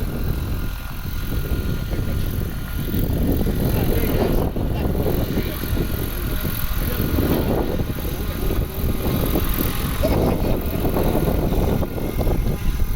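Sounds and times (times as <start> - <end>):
helicopter rotor chop and engine: 0.0 - 12.9.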